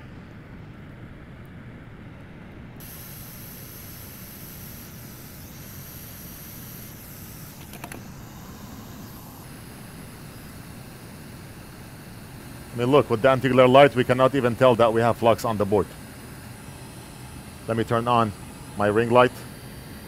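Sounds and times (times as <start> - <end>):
low hum: 0.0 - 20.0
high hiss: 2.8 - 20.0.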